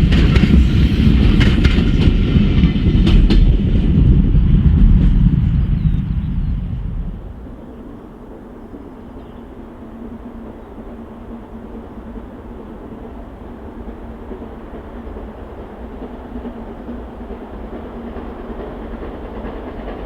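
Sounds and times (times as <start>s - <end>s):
steam train rumbling on rails: 0.0s - 20.0s.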